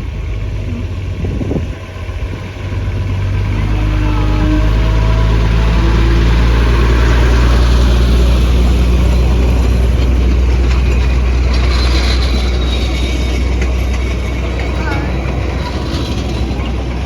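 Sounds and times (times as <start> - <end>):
train engine droning: 0.0 - 17.0.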